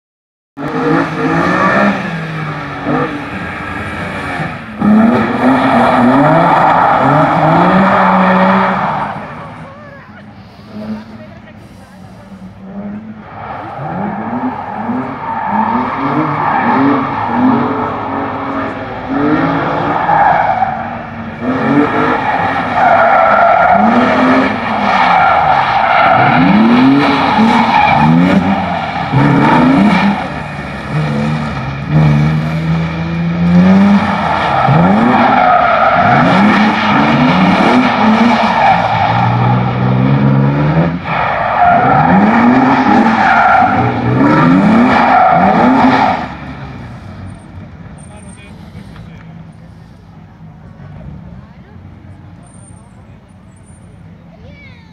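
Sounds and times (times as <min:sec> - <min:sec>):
car engine revving: 0:00.6 - 0:53.0.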